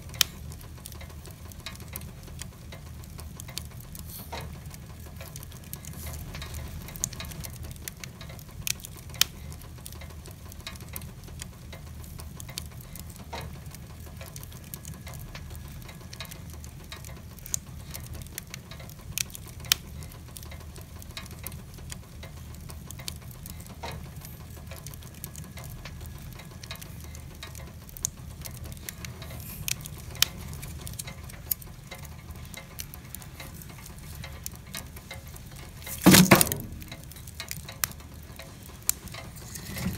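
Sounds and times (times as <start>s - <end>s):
fire crackles and pops: 0.0s - 39.9s
fire low rumble: 0.0s - 39.9s.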